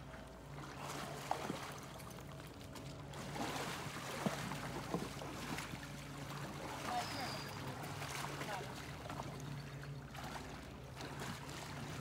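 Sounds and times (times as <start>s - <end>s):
horses wading through water: 0.0s - 12.0s.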